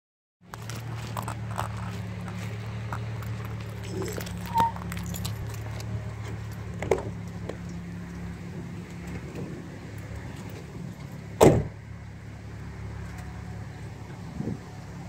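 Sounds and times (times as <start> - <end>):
car engine idling: 0.5 - 15.0.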